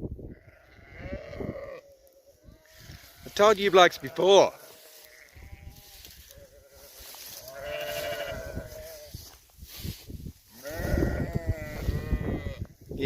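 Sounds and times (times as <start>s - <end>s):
sheep bleating: 0.3s - 9.2s, 10.5s - 12.7s.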